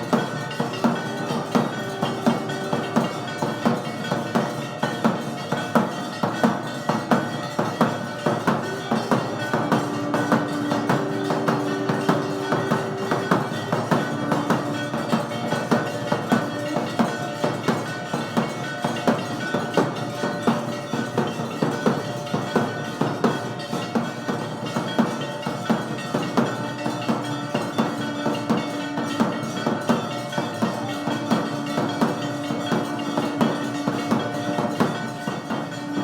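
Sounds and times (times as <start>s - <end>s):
bells struck in steady beat: 0.0s - 36.0s
drums struck in steady beat: 0.0s - 36.0s
held ringing tones: 0.0s - 36.0s.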